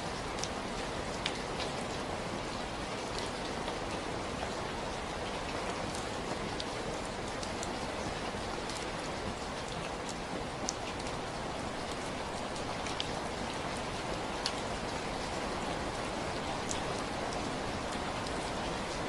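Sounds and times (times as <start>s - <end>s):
raindrops ticking on surface: 0.0s - 19.0s
steady rain hiss: 0.0s - 19.0s.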